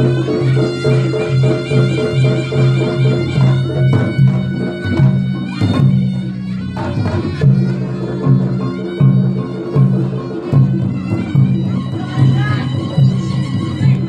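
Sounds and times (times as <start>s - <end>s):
drums and gongs beat: 0.0s - 14.0s
reedy shawm melody: 0.0s - 14.0s
sharp percussion strikes: 0.0s - 14.0s.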